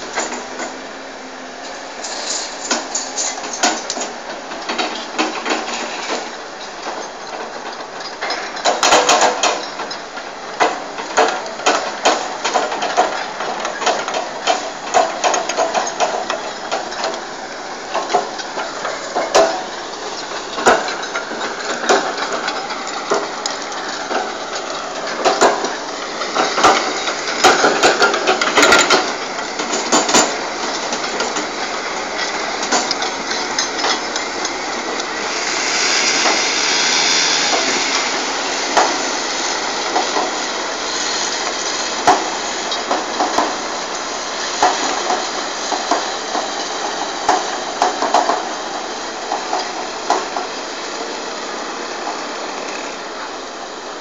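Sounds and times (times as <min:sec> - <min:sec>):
diesel engine under load: 0:00.0 - 0:54.0
hydraulics working: 0:00.0 - 0:54.0.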